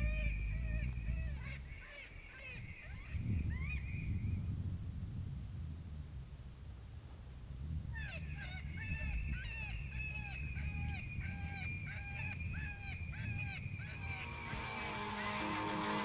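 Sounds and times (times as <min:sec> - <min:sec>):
low rumble: 0:00.0 - 0:15.8.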